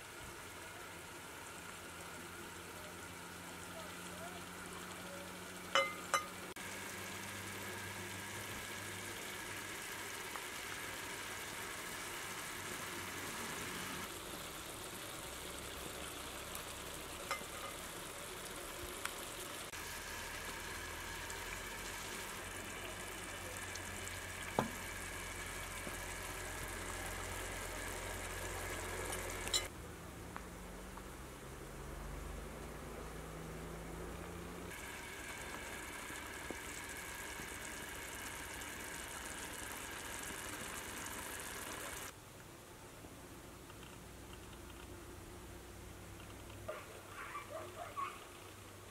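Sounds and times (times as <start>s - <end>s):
food sizzling and bubbling in pot: 0.0s - 29.8s, 30.6s - 42.2s.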